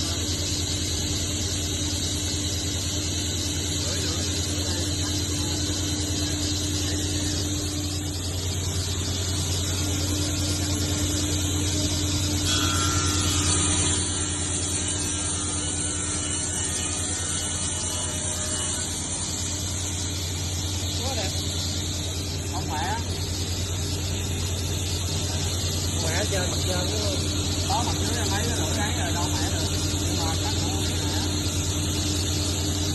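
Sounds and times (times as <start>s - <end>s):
table saw cutting wood: 0.0s - 32.9s.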